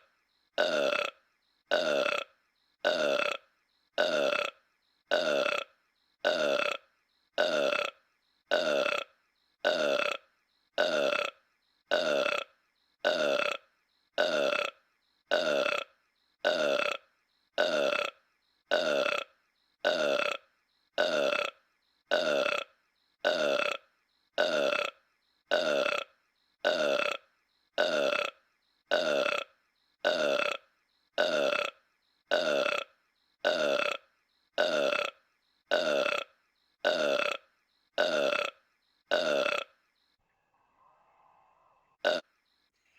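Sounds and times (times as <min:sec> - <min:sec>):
cartoon burp: 0:00.6 - 0:39.8, 0:41.9 - 0:42.4.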